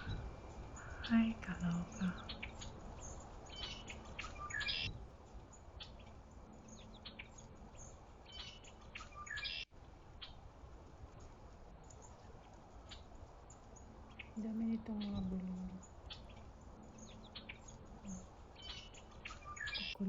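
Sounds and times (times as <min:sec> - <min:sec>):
faint outdoor background: 0:00.0 - 0:20.0
small birds chirping: 0:00.0 - 0:20.0.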